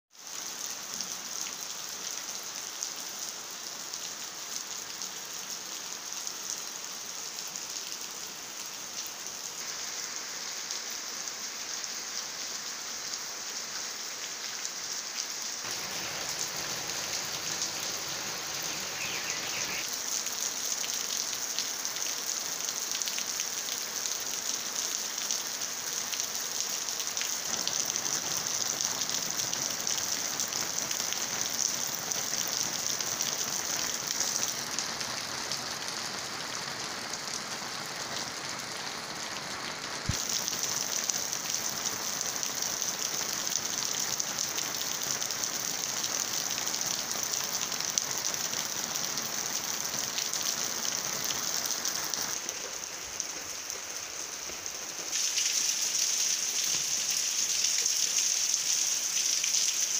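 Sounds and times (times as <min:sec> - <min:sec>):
steady rain on wet ground: 0:00.1 - 0:59.9.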